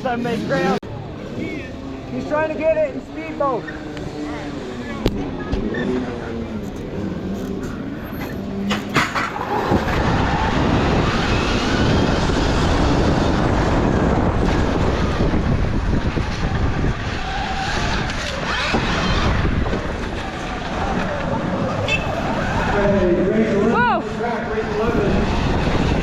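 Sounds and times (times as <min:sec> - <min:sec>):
motorbikes racing off: 0:00.0 - 0:26.0.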